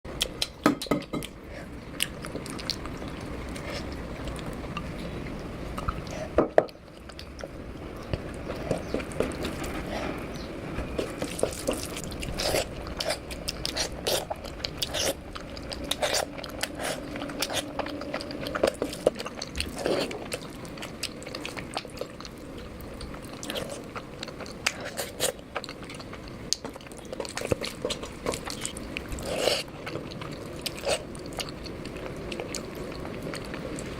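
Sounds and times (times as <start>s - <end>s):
person chewing food: 0.2s - 33.9s.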